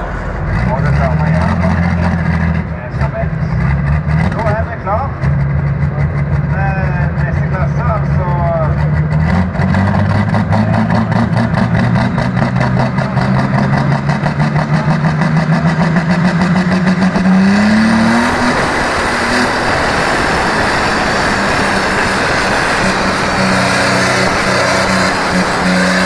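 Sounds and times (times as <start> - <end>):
tractor diesel engine: 0.0 - 26.0.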